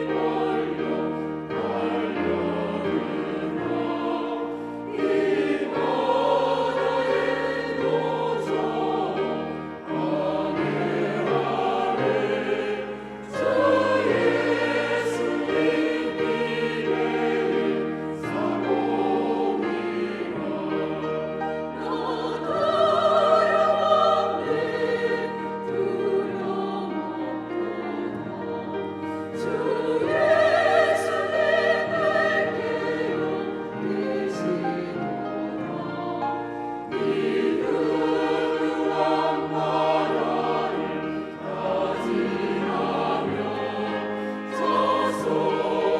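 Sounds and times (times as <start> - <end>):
choir singing in parts: 0.0 - 45.9.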